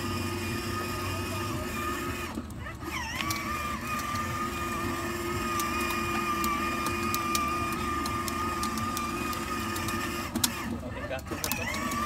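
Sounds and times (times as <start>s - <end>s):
toy electric motor whining: 0.0s - 12.0s.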